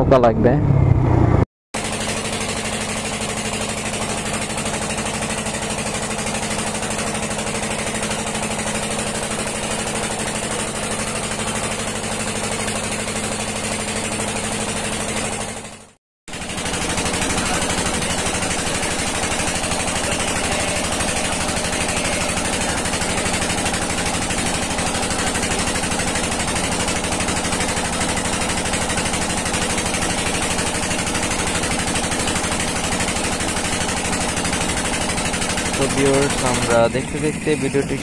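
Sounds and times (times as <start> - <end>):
boat engine chugging: 1.8 - 38.0.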